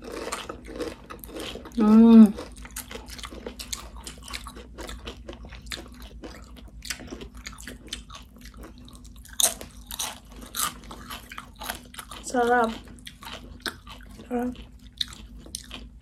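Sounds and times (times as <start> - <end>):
chips crunching while chewed: 0.0 - 16.0.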